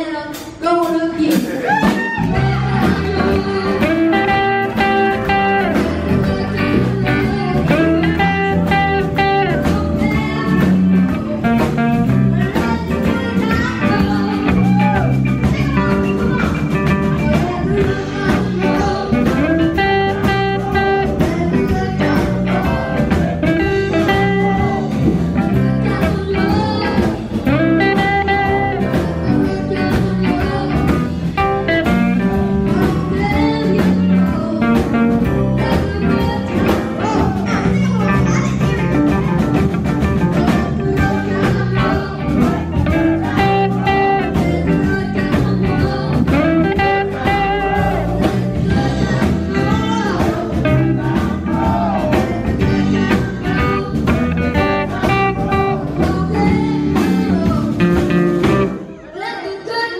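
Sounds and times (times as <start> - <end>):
live blues band playing: 0.0 - 59.9.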